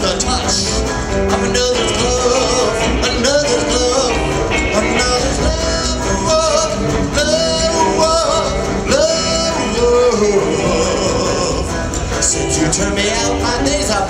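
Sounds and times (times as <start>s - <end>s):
live rock and roll band: 0.0s - 14.0s
person singing: 0.0s - 14.0s.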